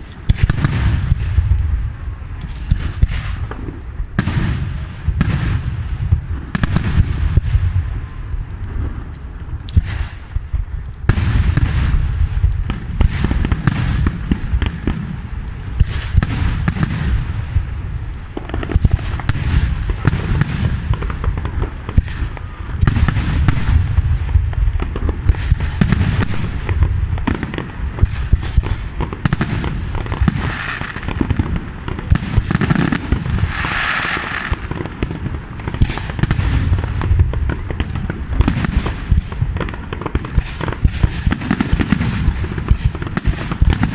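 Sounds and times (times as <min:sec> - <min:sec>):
deep rumble: 0:00.0 - 0:33.7, 0:34.5 - 0:41.4.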